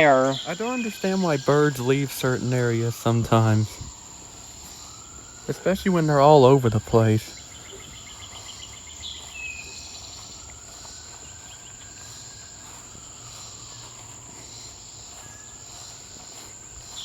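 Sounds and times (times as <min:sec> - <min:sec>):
bird chirp: 0:00.0 - 0:17.0
insect chorus drone: 0:00.0 - 0:17.0.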